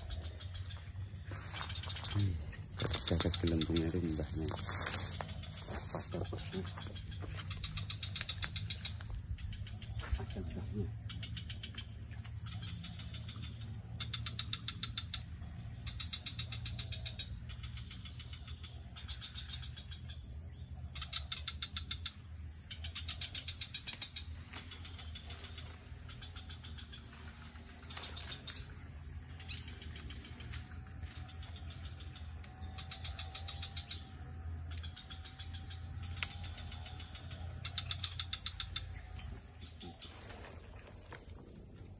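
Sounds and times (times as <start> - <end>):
insects chirping in pulse trains: 0.0 - 41.9.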